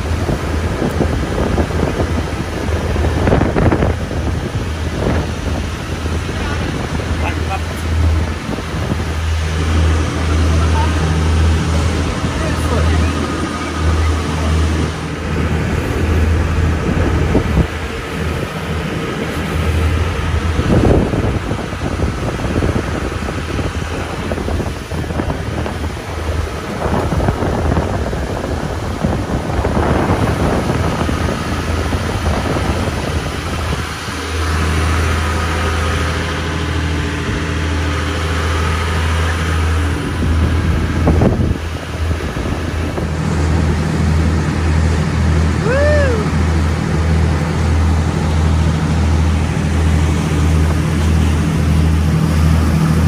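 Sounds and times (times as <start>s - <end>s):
boat engines droning: 0.0s - 53.0s
water rushing past boat: 0.0s - 53.0s
wind buffeting microphone: 0.0s - 53.0s.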